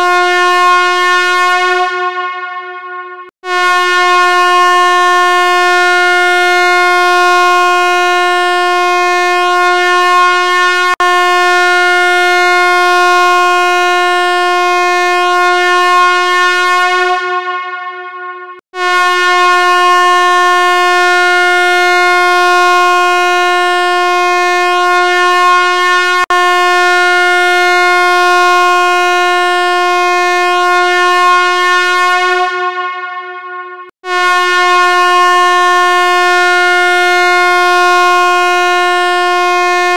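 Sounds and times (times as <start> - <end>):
loud buzzy steady tone: 0.0 - 39.9.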